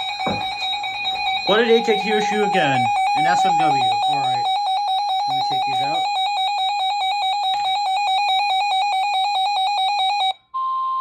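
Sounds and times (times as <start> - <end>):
rapid shrill alarm beeps: 0.0 - 10.3
steady warning alarm tone: 0.0 - 10.3.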